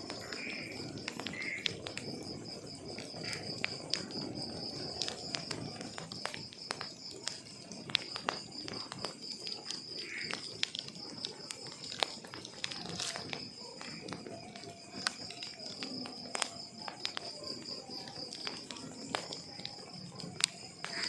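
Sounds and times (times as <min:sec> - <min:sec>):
cricket trill: 0:00.0 - 0:21.0
wood fire crackling: 0:00.0 - 0:21.0.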